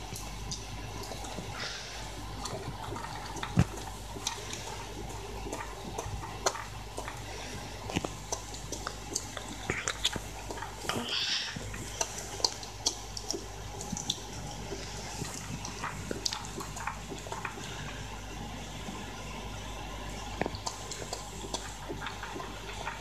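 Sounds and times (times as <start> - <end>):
dog chewing dry food: 0.4 - 18.5, 20.4 - 23.0.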